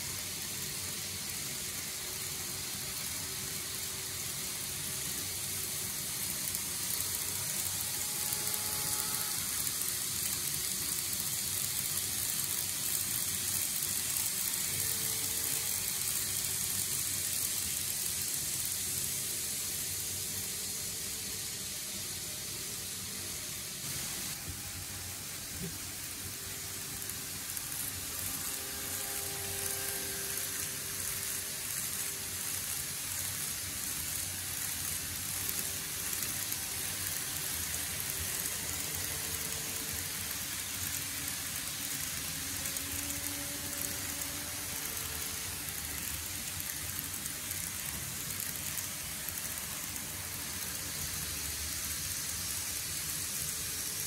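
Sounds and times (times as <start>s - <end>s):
faint motor whine: 0.0s - 54.0s
model train wheels rolling: 0.0s - 54.0s.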